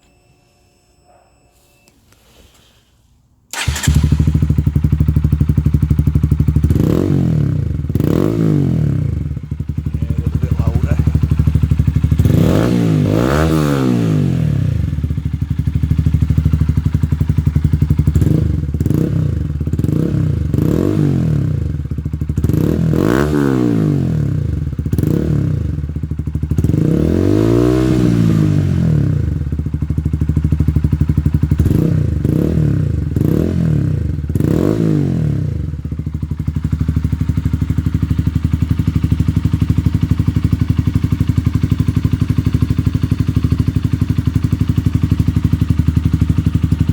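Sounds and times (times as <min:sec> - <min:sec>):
motorcycle engine idling and revving: 0:03.5 - 0:46.9.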